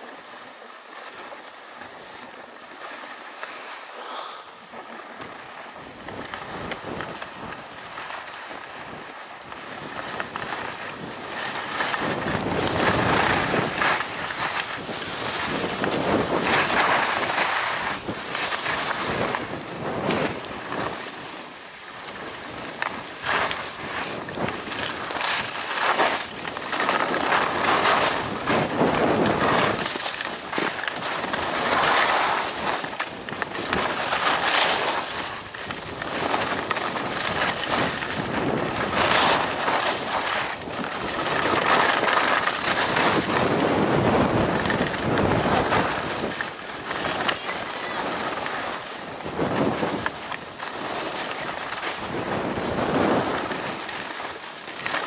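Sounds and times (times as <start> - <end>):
skis scraping across snow: 0.0 - 55.0
wind buffeting microphone: 5.3 - 54.2.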